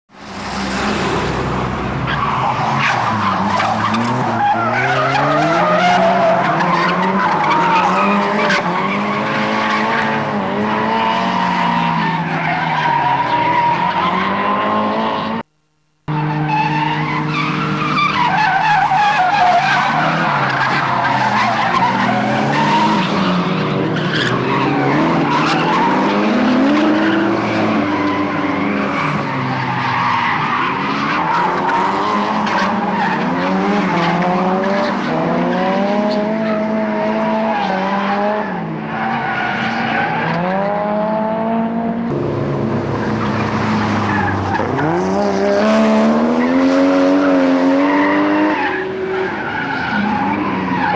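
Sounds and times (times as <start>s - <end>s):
car engines revving: 0.1s - 50.9s.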